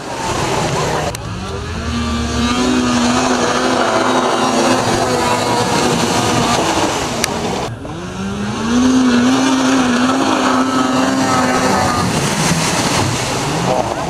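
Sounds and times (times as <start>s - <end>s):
snowmobile engine at high revs: 0.0s - 14.0s.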